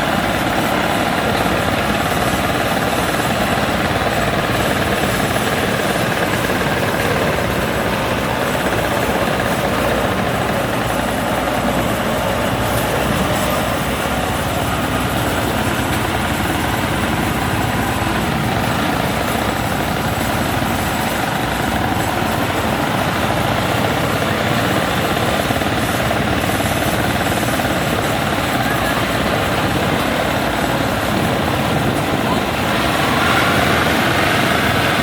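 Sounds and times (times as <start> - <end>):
harvester engine droning: 0.0 - 35.0
road and wind noise: 0.0 - 35.0.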